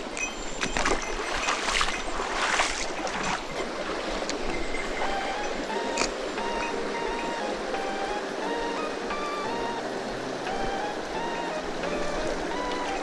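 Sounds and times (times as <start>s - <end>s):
splashes of wading in water: 0.0s - 13.0s
stream rushing over rocks: 0.0s - 13.0s.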